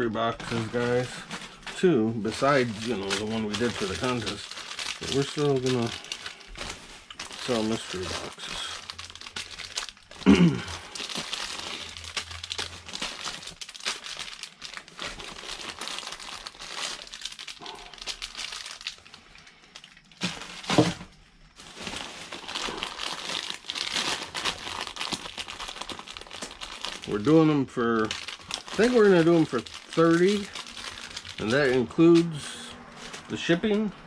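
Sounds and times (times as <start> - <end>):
plastic packaging crinkling: 0.0 - 34.0.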